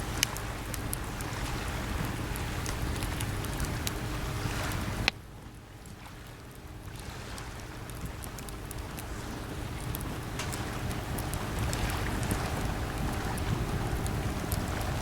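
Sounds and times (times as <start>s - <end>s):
sea waves washing: 0.0s - 5.1s, 6.1s - 15.0s
campfire crackling and popping: 0.0s - 5.2s, 5.8s - 15.0s.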